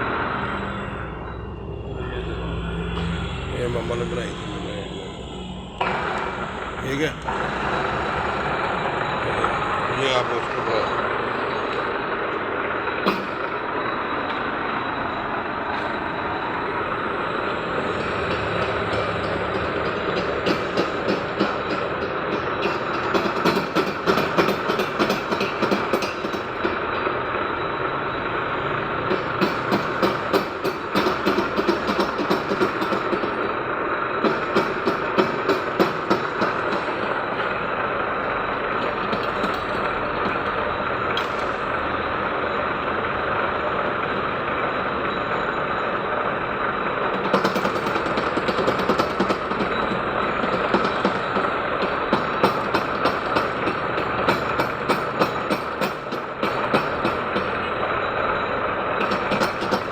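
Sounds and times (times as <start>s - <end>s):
metalworking lathe running: 0.0s - 59.9s.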